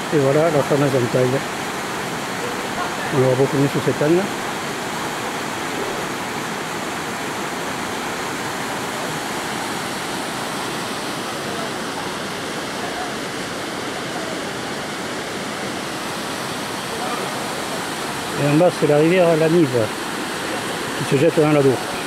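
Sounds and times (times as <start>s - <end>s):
river rushing through rapids: 0.0s - 22.0s.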